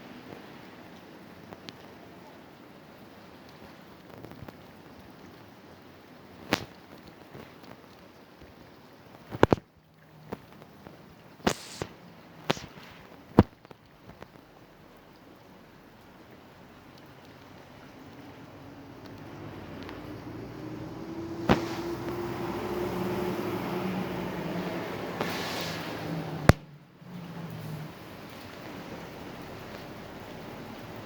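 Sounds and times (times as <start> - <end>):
faint steady hiss: 0.0 - 31.0.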